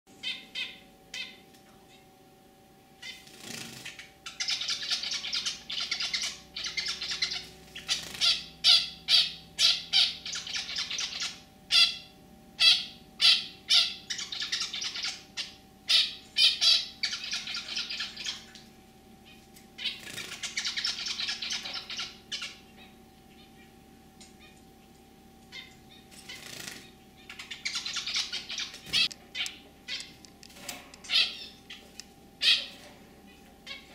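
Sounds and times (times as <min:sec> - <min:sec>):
finch singing: 0:00.1 - 0:02.0, 0:03.0 - 0:30.4, 0:31.0 - 0:33.9.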